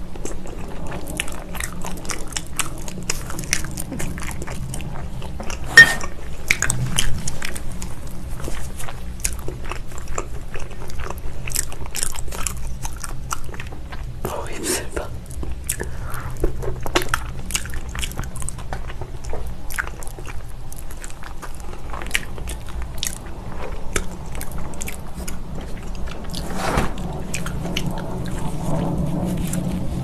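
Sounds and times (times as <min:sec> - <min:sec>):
chewing meat off bone: 0:00.0 - 0:30.0
steady low hum: 0:00.0 - 0:30.0.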